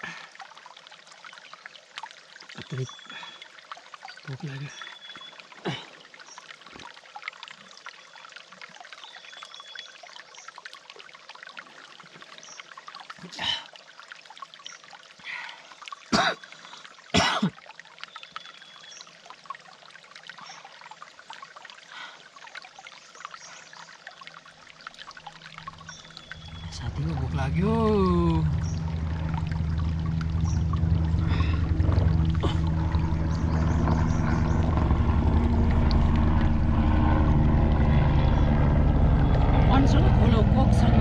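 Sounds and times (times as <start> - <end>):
stream trickling: 0.0 - 41.0.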